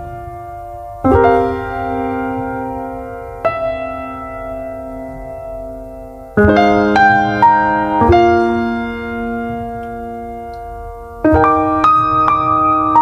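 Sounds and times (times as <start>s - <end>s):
electric piano sustained notes: 0.0s - 13.0s.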